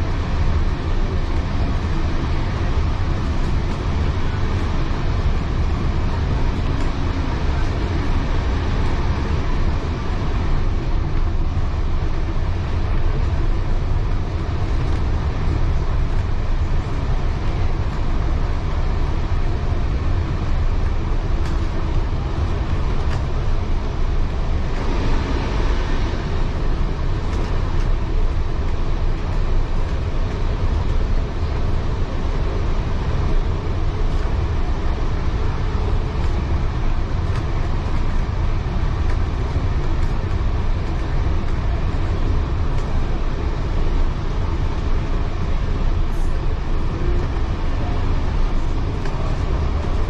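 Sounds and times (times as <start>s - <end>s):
railway carriage wheels rumbling: 0.0s - 50.0s.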